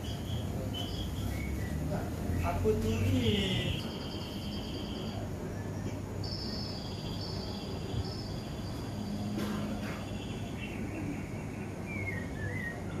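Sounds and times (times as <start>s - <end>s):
bird calls: 0.0s - 13.0s
insect calls: 0.0s - 13.0s.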